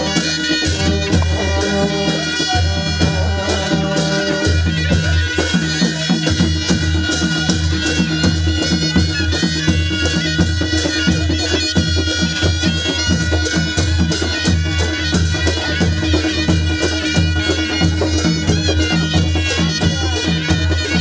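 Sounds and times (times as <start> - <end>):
drums beating: 0.0 - 21.0
reedy shawm melody: 0.0 - 21.0.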